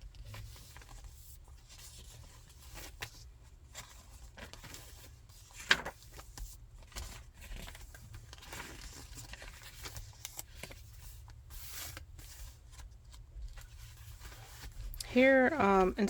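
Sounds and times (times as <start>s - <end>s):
paper pages rustling: 0.0s - 16.0s.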